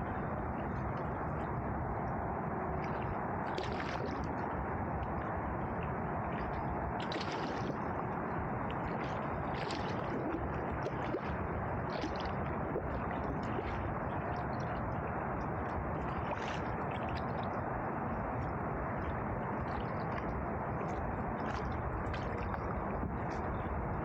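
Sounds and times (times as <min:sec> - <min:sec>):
river water rushing and gurgling: 0:00.0 - 0:24.0
small water splashes and drips: 0:00.1 - 0:24.0.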